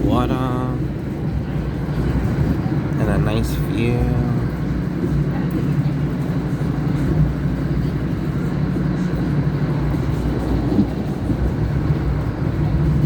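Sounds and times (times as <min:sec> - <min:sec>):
train rumble inside carriage: 0:00.0 - 0:13.0.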